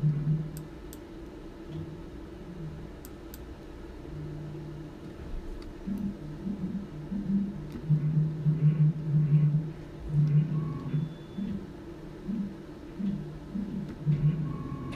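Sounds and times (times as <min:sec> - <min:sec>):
low machine hum: 0:00.0 - 0:14.9.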